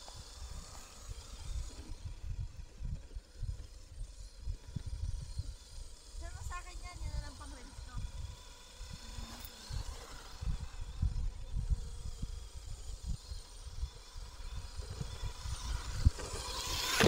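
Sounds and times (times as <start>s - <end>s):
electric motor whine: 0.0s - 17.0s
wind gusts on microphone: 0.1s - 17.0s.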